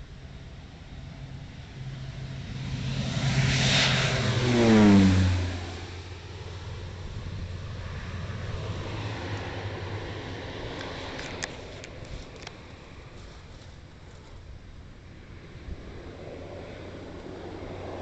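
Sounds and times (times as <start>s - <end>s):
turboprop plane flyby: 0.0s - 18.0s.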